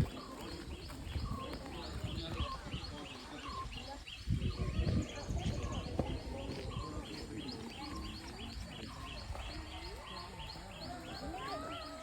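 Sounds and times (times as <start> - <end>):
bird chirping: 0.0 - 12.0
faint voices: 0.0 - 12.0.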